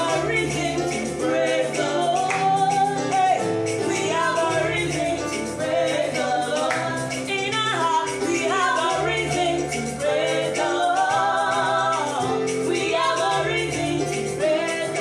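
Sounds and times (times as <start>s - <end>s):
instrumental backing with bass: 0.0s - 15.0s
person singing: 0.0s - 15.0s.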